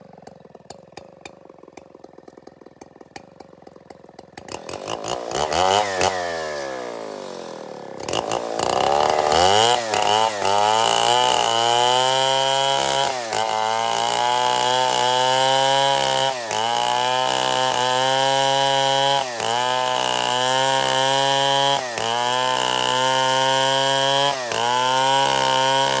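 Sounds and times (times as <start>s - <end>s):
chainsaw revving and cutting wood: 0.0s - 26.0s.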